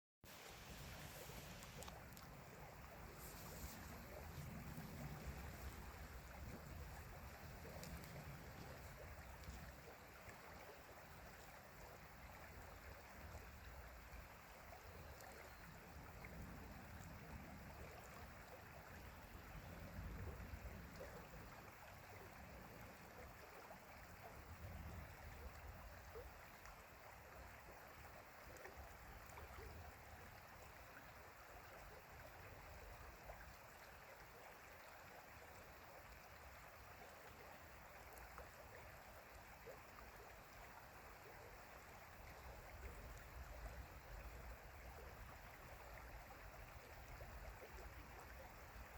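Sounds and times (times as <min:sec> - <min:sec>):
stream water rushing: 0:00.2 - 0:48.9.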